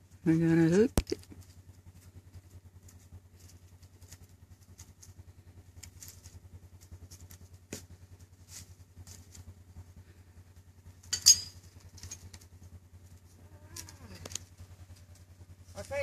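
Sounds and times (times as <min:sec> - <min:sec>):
utility vehicle engine idling: 0:00.0 - 0:16.0.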